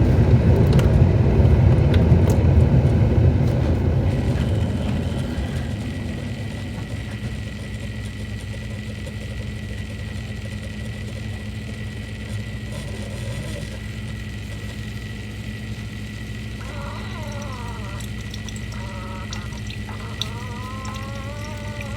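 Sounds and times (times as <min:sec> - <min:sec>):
kitchen appliance humming: 0:00.0 - 0:21.9.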